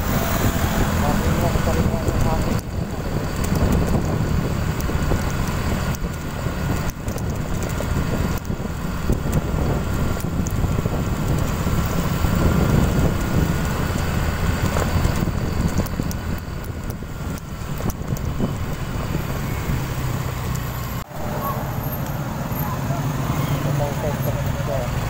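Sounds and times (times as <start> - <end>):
motorcycle running: 0.0 - 25.0
wind rumbling on microphone: 0.0 - 25.0.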